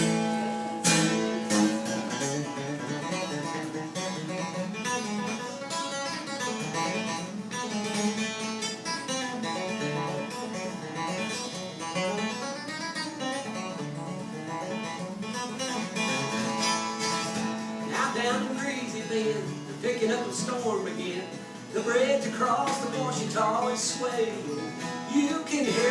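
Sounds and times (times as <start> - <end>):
acoustic guitar picking and strumming: 0.0 - 25.9.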